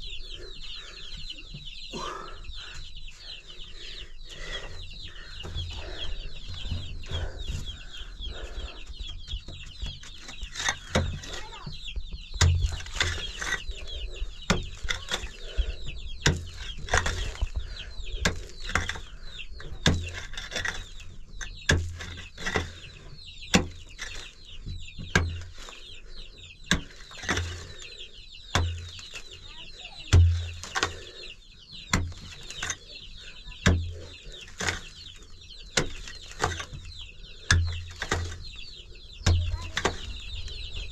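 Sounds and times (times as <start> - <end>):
birds chirping and clucking: 0.0 - 40.9
sharp knocks and dull thumps: 1.1 - 2.1, 4.6 - 25.7, 26.6 - 27.8, 28.4 - 40.9.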